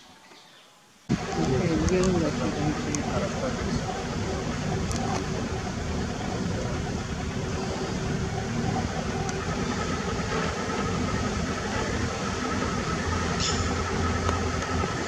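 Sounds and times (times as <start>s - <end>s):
vehicle engine rumble: 1.1s - 15.0s.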